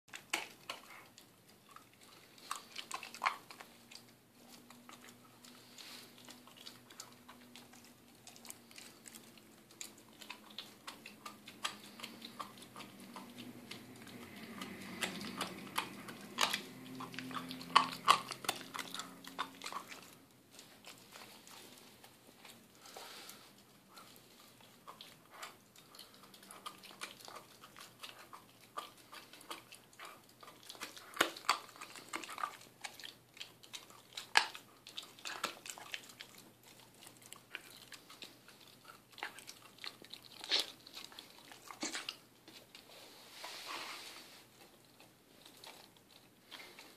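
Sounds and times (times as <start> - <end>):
puppy gnawing on a chew: 0.1 - 46.9.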